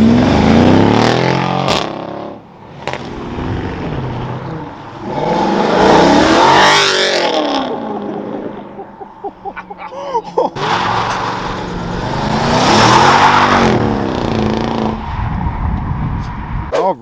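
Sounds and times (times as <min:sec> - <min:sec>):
car engine accelerating: 0:00.0 - 0:09.8, 0:10.5 - 0:16.7.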